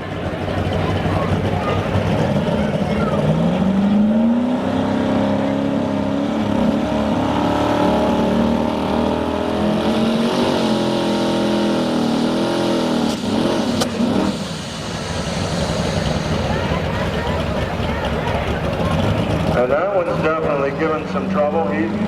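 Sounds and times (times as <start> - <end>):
truck engine revving high: 0.0 - 22.0.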